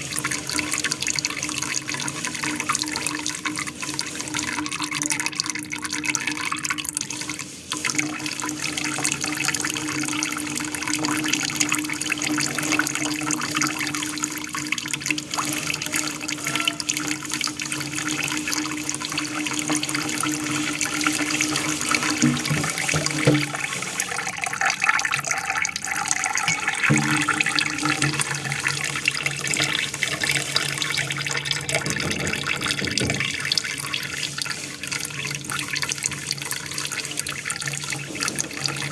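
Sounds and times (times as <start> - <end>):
water splashing and trickling: 0.0 - 38.9.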